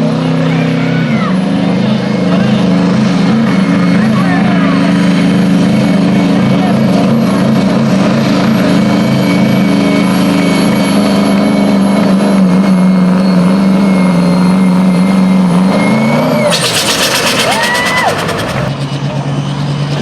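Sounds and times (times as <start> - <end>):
truck engine droning at full throttle: 0.0 - 20.0.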